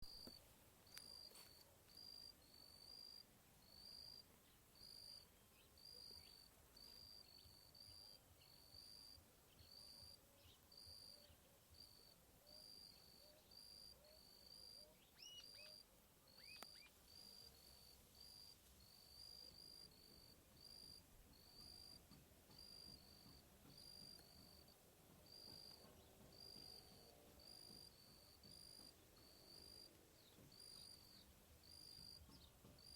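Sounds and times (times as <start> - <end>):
crickets chirping: 0.1 - 32.9.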